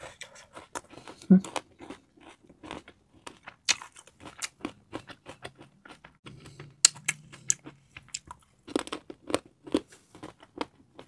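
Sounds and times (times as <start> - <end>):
chocolate crunching: 0.1 - 11.0.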